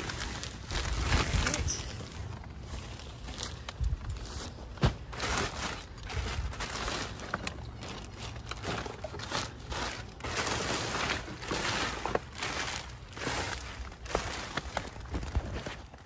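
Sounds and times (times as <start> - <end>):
plastic bag rustling and crinkling: 0.0 - 16.0.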